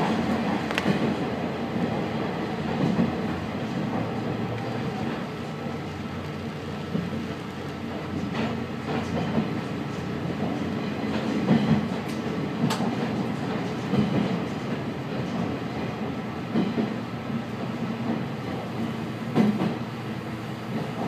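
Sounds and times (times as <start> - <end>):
diesel railcar engine and rolling: 0.0 - 21.0.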